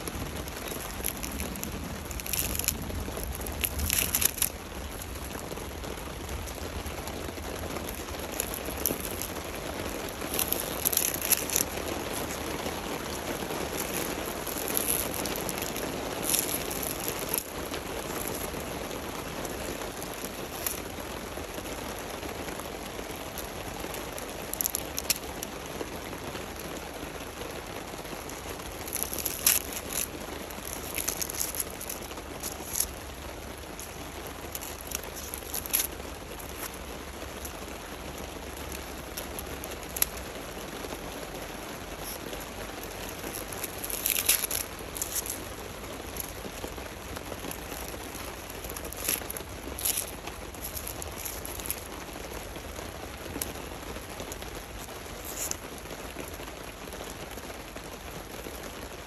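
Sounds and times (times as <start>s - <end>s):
dry leaves crackling in fingers: 0.0s - 58.7s
rain pattering: 0.0s - 59.0s.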